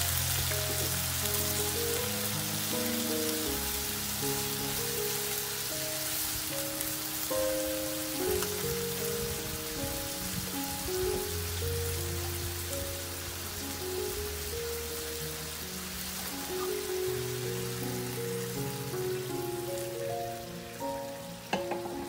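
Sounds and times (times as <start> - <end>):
meat and vegetables sizzling in pan: 0.0 - 22.0
simple background music: 0.0 - 22.0.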